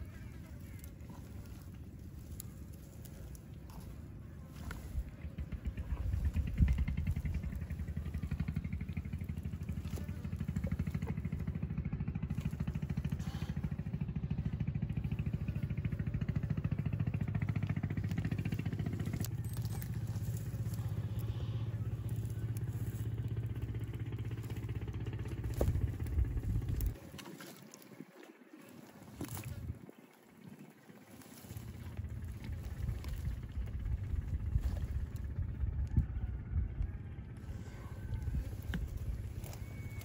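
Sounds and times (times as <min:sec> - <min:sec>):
small engine idling: 0:00.0 - 0:40.0.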